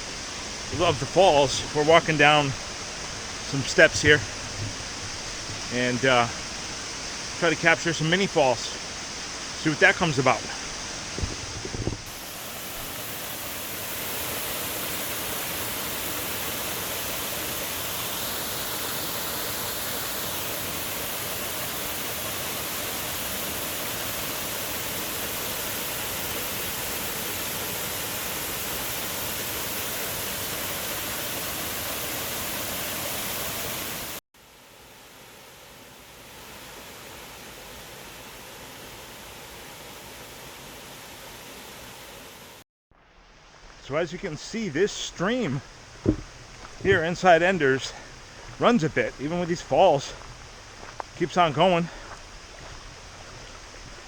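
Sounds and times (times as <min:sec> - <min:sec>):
small waterfall rushing: 0:00.0 - 0:42.6, 0:43.5 - 0:54.0
quieter rush of water: 0:00.0 - 0:54.0.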